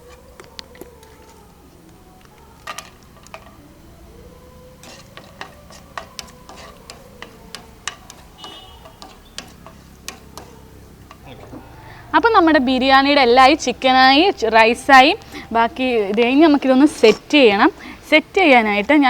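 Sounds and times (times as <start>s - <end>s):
faint steady hum: 0.0s - 19.0s
onions frying crackling: 0.0s - 19.0s.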